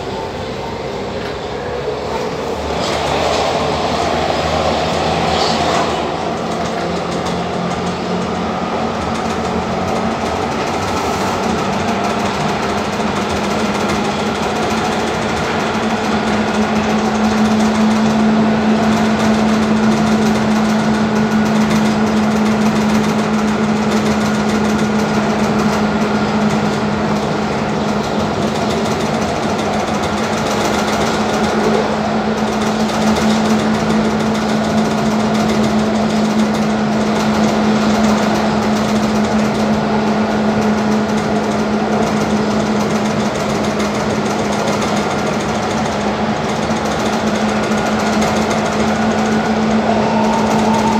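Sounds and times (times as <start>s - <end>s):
electric train running inside carriage: 0.0s - 50.9s.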